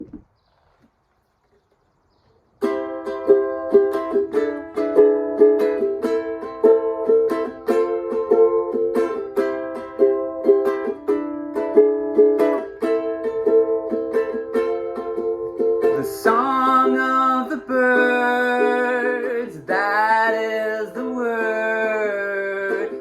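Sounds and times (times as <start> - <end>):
strummed string instrument: 2.6 - 23.0.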